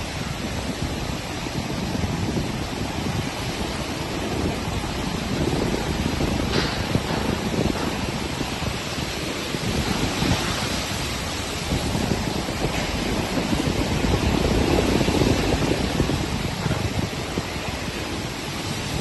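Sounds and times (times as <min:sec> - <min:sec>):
heavy rain: 0:00.0 - 0:19.0
wind buffeting microphone: 0:00.0 - 0:19.0.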